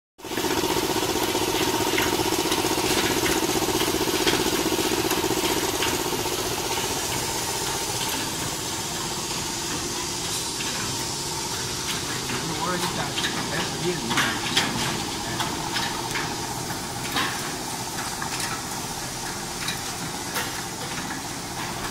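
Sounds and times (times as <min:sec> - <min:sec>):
machine motor hum: 0:00.2 - 0:20.3.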